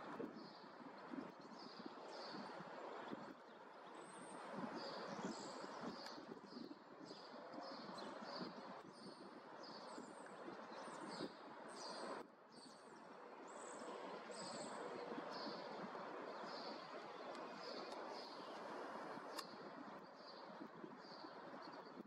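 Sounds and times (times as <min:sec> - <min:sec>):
faint background noise: 0:00.0 - 0:22.0
small birds chirping: 0:00.0 - 0:22.0.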